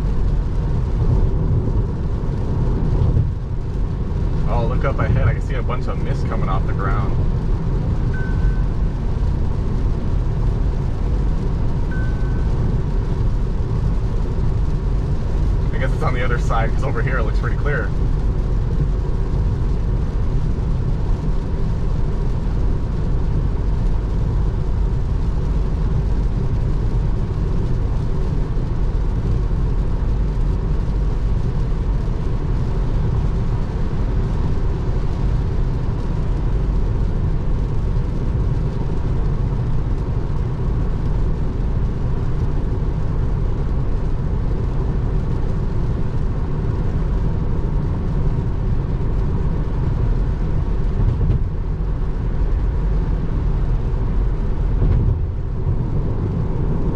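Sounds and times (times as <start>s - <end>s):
tyre noise on wet road: 0.0s - 56.9s.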